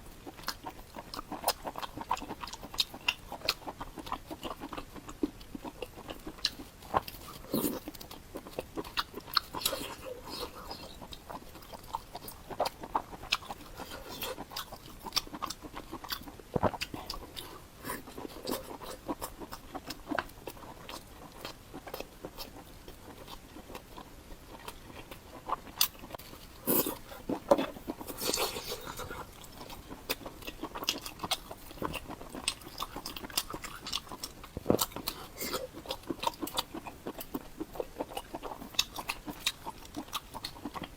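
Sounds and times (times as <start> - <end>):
person chewing with wet smacks: 0.0 - 40.9.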